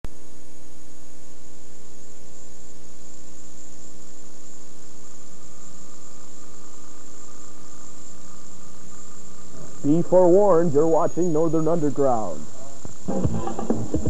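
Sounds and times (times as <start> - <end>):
thin high whine: 0.1 - 14.0.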